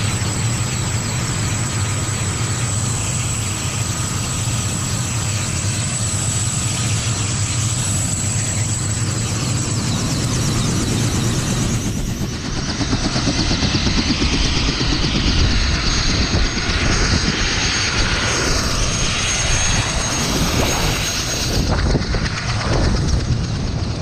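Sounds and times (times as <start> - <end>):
helicopter rotor drone: 0.0 - 24.0
high turbine whine: 0.0 - 24.0.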